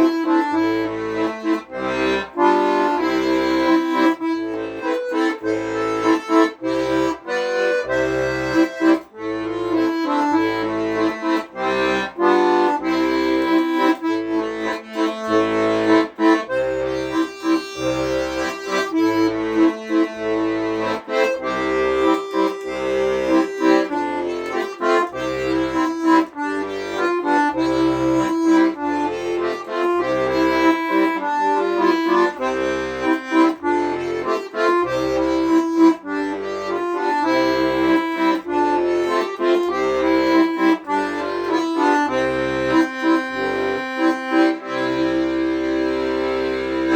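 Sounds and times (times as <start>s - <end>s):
solo instrumental melody: 0.0s - 46.9s.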